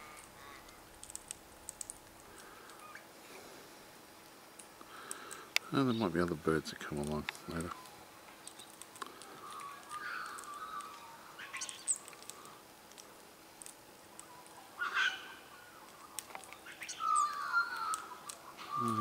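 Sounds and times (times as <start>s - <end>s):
wild birds calling: 0.0s - 3.8s, 4.5s - 19.0s
faint chirps and ticks: 0.0s - 19.0s.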